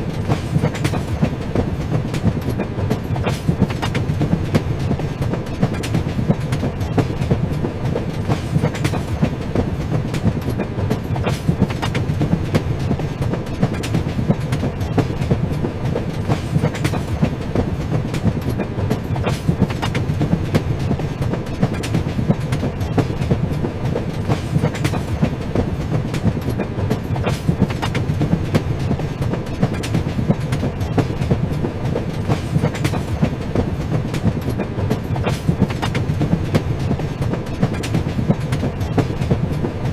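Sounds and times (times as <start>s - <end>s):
train rumbling along track: 0.0s - 39.9s
wheels clicking over rails: 0.0s - 39.9s.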